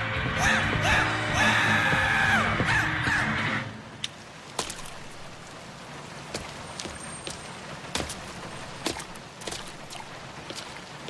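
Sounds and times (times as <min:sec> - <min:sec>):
rain patter: 0:00.4 - 0:11.0.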